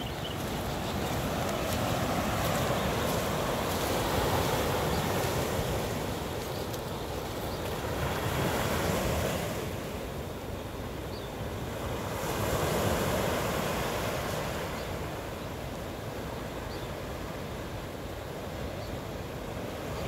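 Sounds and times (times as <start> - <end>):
ocean surf washing onto shore: 0.0 - 20.0.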